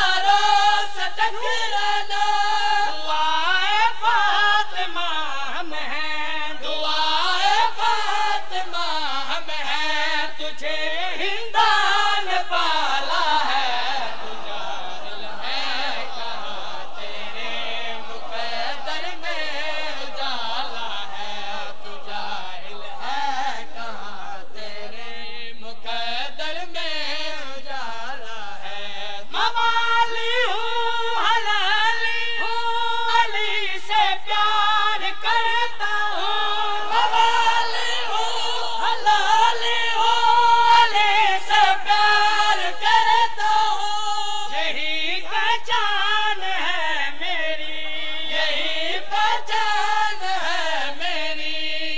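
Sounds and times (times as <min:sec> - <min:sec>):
man chanting through microphone: 0:00.0 - 0:51.9.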